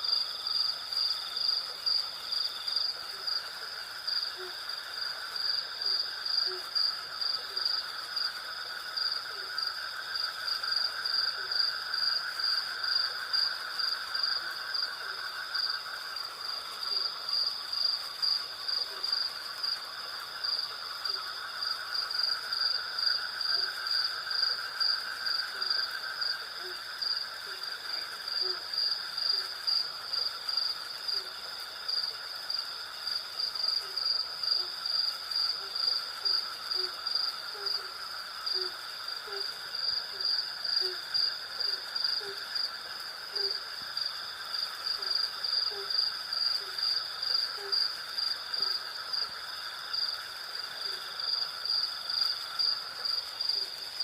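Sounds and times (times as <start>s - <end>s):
crickets and cicadas chirping: 0.0s - 54.0s
lower buzzing insect chorus: 0.0s - 54.0s.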